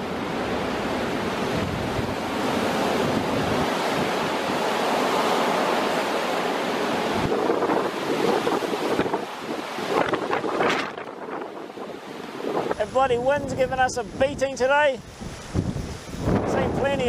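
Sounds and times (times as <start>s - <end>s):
wind buffeting microphone: 0.2s - 6.0s, 6.9s - 17.0s.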